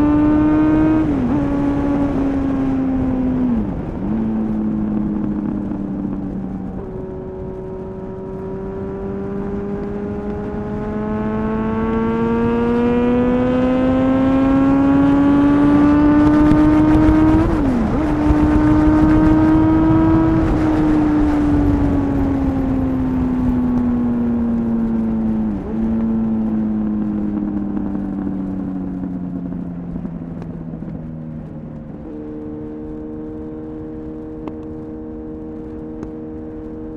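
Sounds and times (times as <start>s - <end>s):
motorcycle engine revving: 0.0s - 30.1s.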